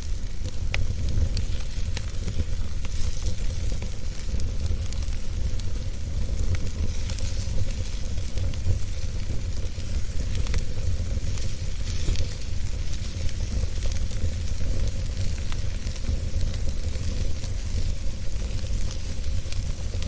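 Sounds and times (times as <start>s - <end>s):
fire crackles and pops: 0.0s - 20.0s
wood fire hissing and rumbling: 0.0s - 20.0s.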